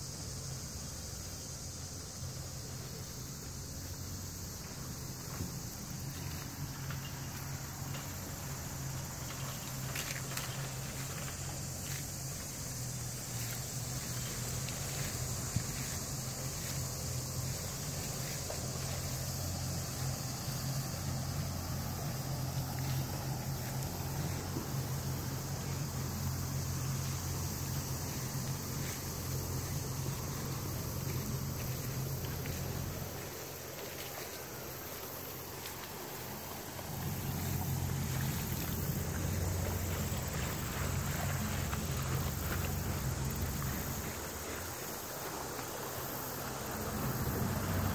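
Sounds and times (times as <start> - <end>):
distant engine humming: 0.5 - 47.9.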